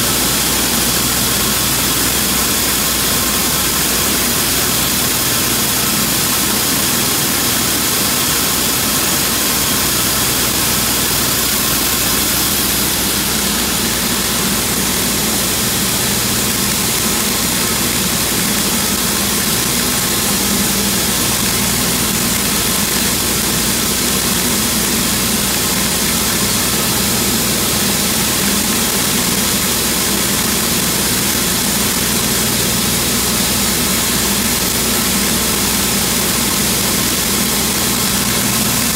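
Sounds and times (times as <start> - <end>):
machine hum and hiss: 0.0 - 38.9.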